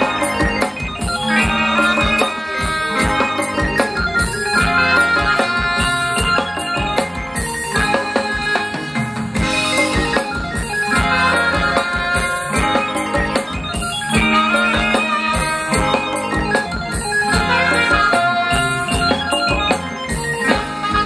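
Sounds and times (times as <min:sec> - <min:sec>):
keyboard melody: 0:00.0 - 0:21.0
steady drum beat: 0:00.0 - 0:21.0.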